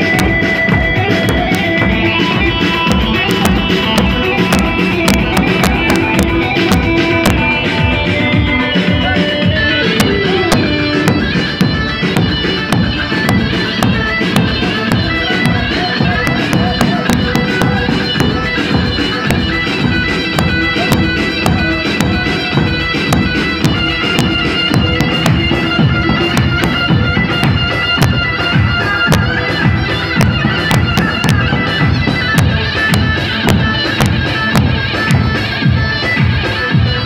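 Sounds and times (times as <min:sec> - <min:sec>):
bass drum beating: 0:00.0 - 0:37.0
reedy wind instrument melody: 0:00.0 - 0:37.0.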